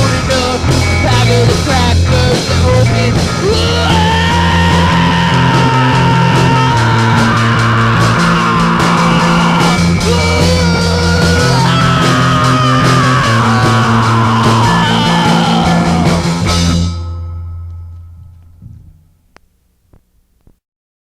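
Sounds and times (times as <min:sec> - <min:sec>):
loud rock music: 0:00.0 - 0:17.4.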